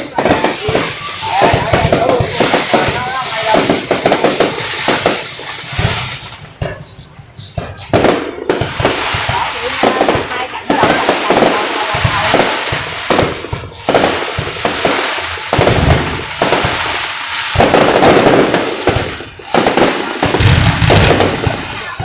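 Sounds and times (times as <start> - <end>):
fireworks bursting: 0.0 - 22.0
fireworks crackling: 0.0 - 22.0.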